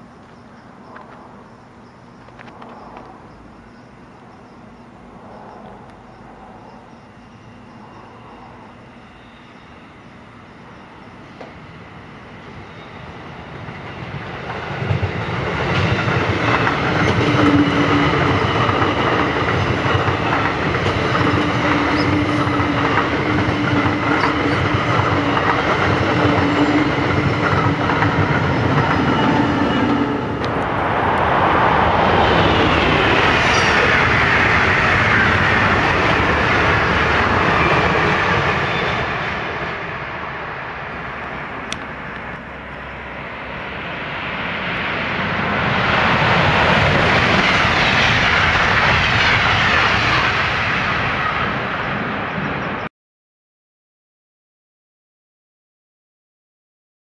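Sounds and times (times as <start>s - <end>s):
passenger train passing: 0.0s - 52.9s.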